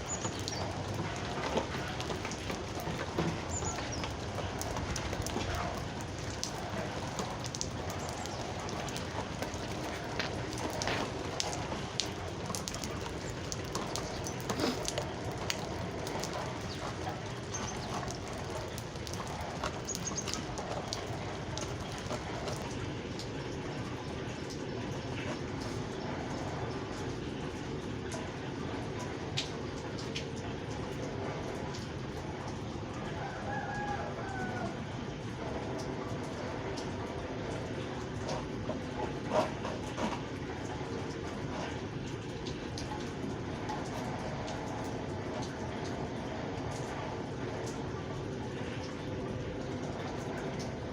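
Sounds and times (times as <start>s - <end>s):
steady rain: 0.0s - 50.9s
water dripping: 0.0s - 50.9s.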